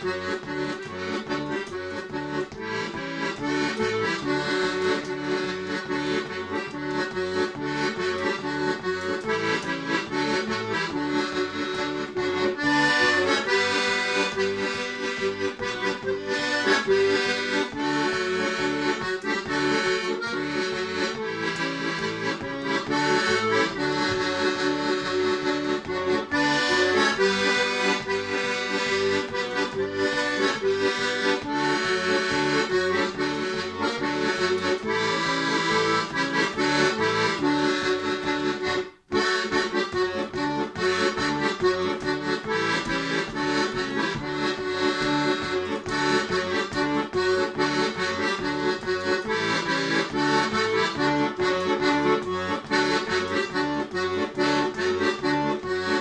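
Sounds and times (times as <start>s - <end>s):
accordion playing a tune: 0.0s - 56.0s.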